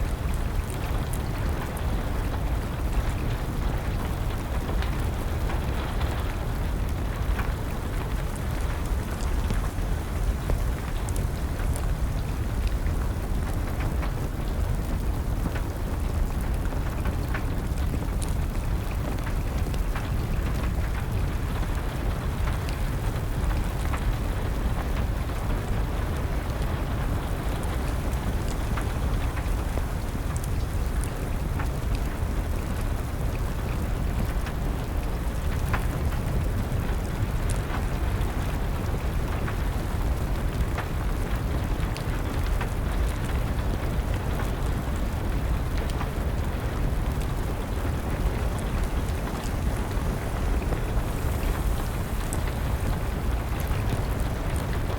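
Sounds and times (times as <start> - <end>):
steady rain: 0.0 - 54.9
wood fire crackling: 0.0 - 54.9.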